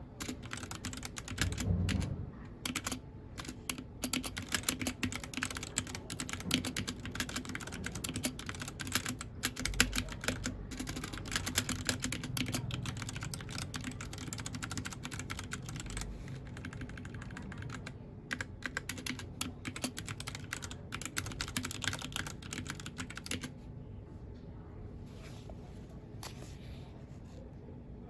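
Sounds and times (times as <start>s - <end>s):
mechanical keyboard typing: 0.2s - 23.5s.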